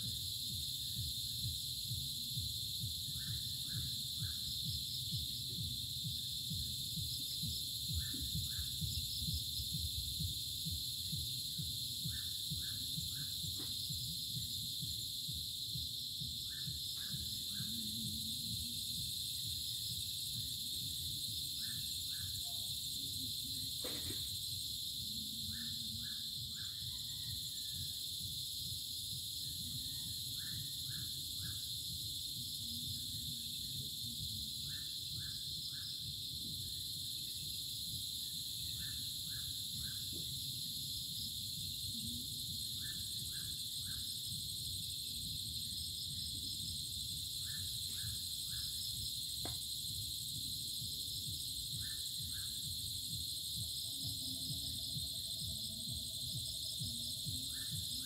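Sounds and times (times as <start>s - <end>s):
crickets and cicadas chorus: 0.0s - 58.0s.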